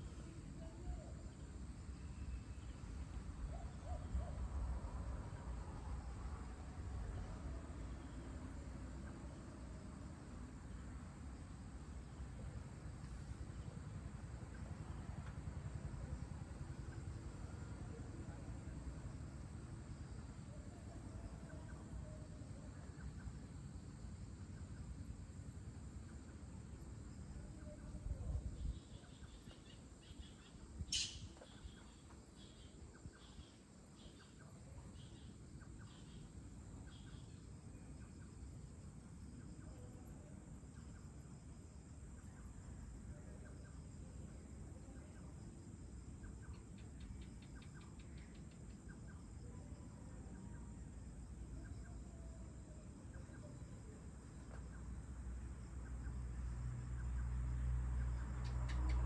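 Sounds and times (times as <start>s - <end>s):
crickets and insects chirring: 0.0s - 59.0s.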